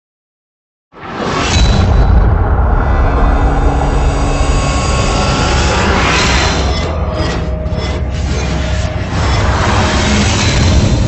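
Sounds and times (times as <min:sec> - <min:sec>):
cinematic whoosh: 0:01.1 - 0:11.0
deep rumble: 0:01.6 - 0:11.0.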